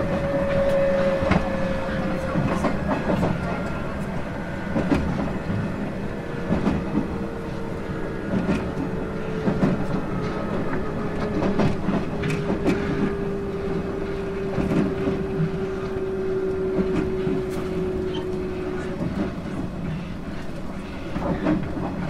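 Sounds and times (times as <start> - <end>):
electric train drive whine: 0.0 - 20.2.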